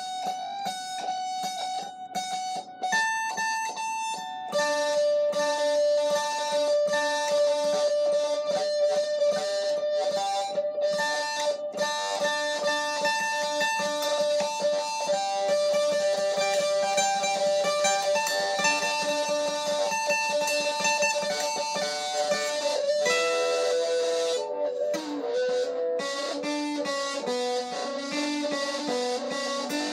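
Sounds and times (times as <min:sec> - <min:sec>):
solo guitar fast picking: 0:03.9 - 0:29.9.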